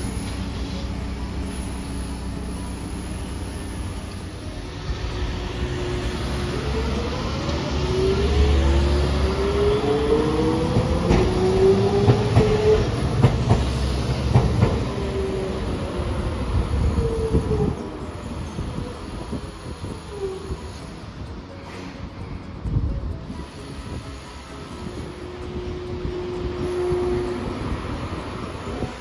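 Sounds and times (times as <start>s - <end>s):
streetcar running gear rumbling: 0.0s - 29.0s
wheels clicking over rail joints: 0.0s - 29.0s.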